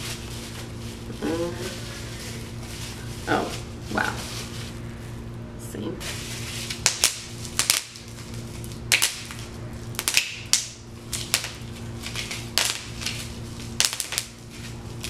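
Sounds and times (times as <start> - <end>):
bubble wrap popping: 0.0 - 4.8, 6.0 - 15.0
plastic crinkling: 0.0 - 5.3, 6.0 - 15.0.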